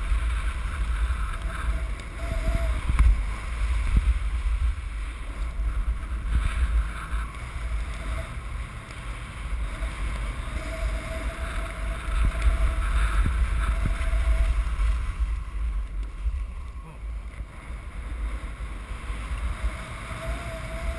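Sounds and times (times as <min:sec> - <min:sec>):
skis hissing over packed snow: 0:00.0 - 0:20.9
wind buffeting microphone: 0:00.0 - 0:20.9.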